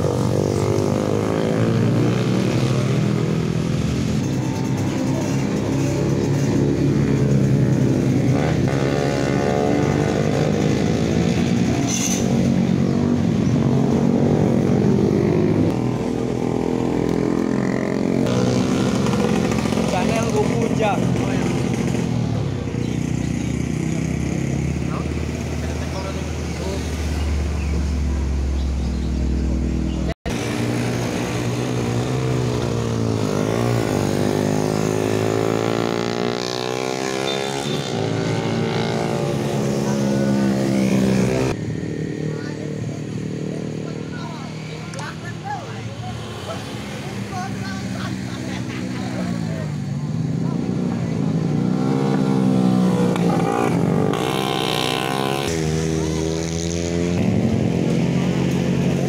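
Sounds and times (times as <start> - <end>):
racing motorcycles revving: 0.0 - 59.0.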